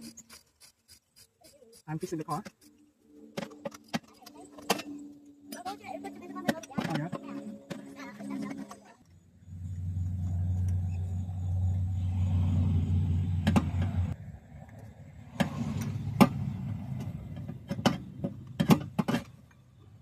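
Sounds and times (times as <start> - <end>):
low hum: 2.5 - 18.7.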